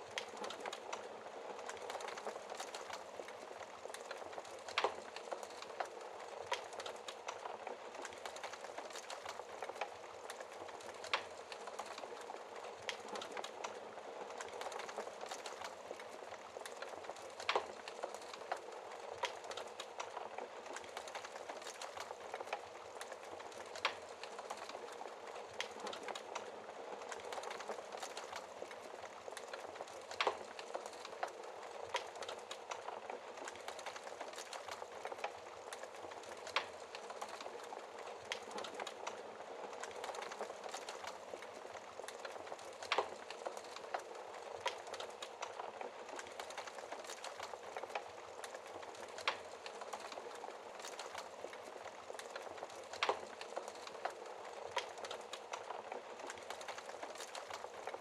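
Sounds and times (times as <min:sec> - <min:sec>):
burning logs crackling and popping: 0:00.0 - 0:58.0.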